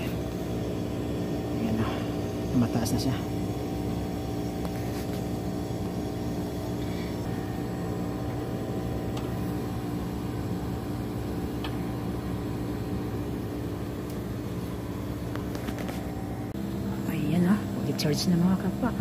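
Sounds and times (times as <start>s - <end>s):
air conditioner unit humming: 0.0s - 19.0s.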